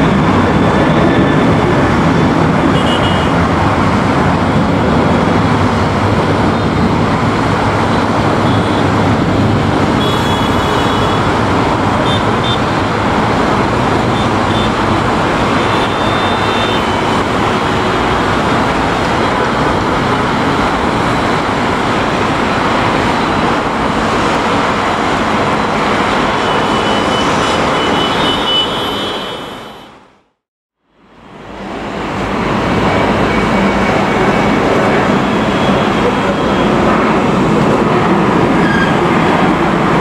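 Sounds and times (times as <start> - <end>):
jet engines rumbling: 0.0 - 28.5, 31.3 - 40.0.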